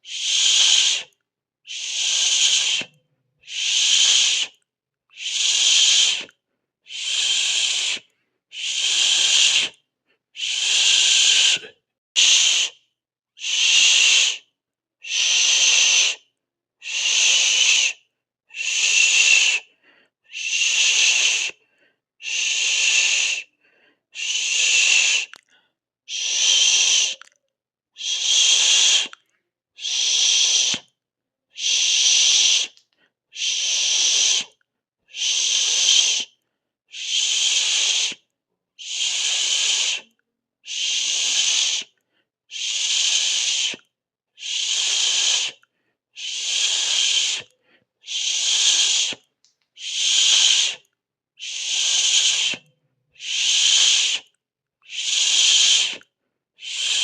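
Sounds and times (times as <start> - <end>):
person hissing through teeth: 0.0 - 9.8, 10.4 - 12.8, 13.4 - 16.2, 16.8 - 19.7, 20.3 - 21.6, 22.2 - 23.5, 24.2 - 25.5, 26.1 - 27.4, 28.0 - 29.2, 29.8 - 30.9, 31.5 - 38.2, 38.8 - 57.0.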